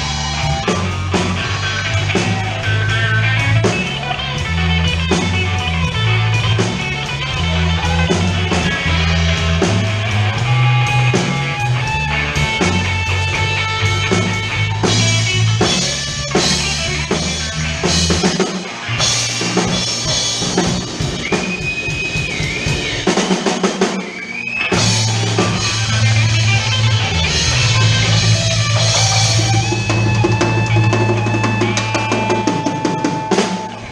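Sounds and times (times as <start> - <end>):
bass line: 0.0 - 33.9
blues-rock band playing: 0.0 - 33.9
drum kit: 0.0 - 33.9
electric guitar notes: 0.0 - 33.9.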